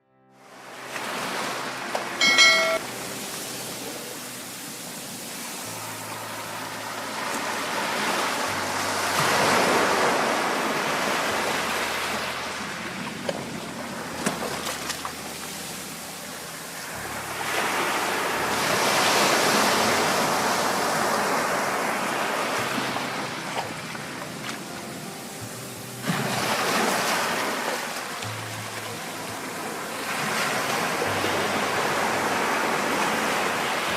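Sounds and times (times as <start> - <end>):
sea waves breaking: 0.4 - 33.9.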